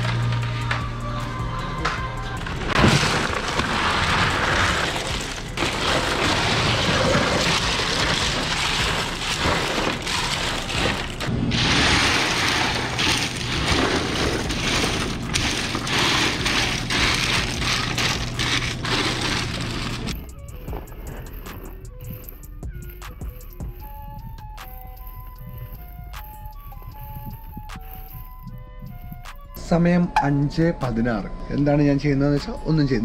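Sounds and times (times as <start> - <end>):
ice clattering against cans: 2.6 - 29.6.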